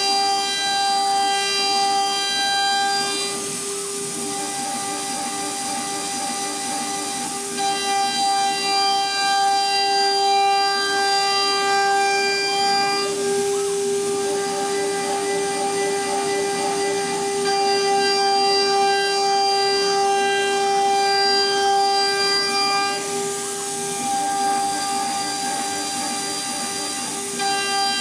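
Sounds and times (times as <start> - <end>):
end mill cutting aluminium: 0.0 - 28.0
spindle high whine: 0.0 - 28.0.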